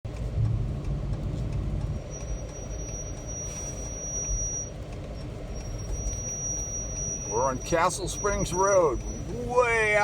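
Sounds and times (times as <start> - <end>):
engine and tyres rumbling on road: 0.0 - 10.0.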